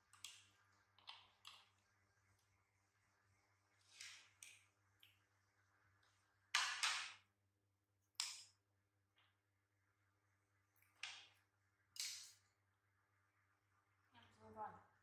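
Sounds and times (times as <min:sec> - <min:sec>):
faint steady hum: 0:00.0 - 0:07.6, 0:08.3 - 0:15.0.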